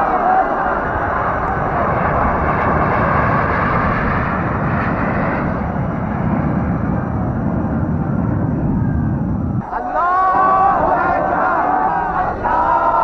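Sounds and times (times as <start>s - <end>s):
jet airliner engine roar: 0.0s - 13.0s.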